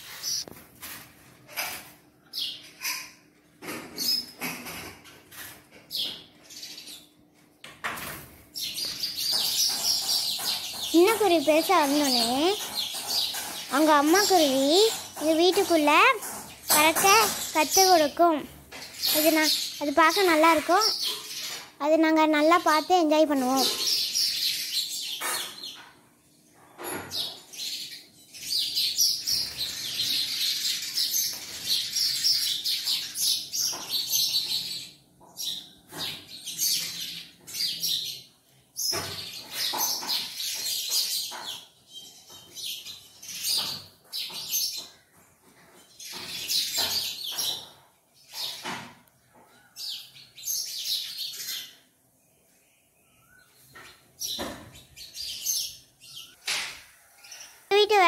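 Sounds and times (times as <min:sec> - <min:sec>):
sparrows chirping: 0:00.0 - 0:04.6, 0:05.3 - 0:07.2, 0:08.6 - 0:58.0.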